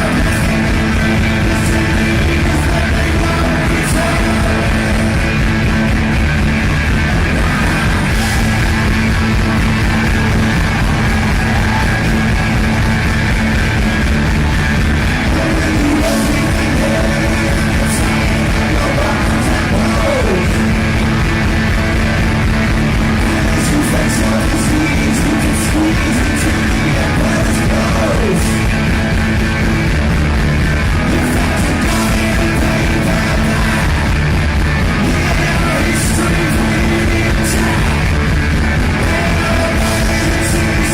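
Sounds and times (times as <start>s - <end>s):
rock music with singing and guitar: 0.0s - 40.9s.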